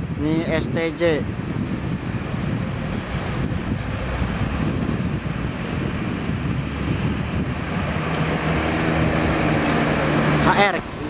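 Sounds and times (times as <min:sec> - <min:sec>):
engine drone: 0:00.0 - 0:11.0
traffic rumble: 0:00.0 - 0:11.0
wind buffeting microphone: 0:00.0 - 0:11.0.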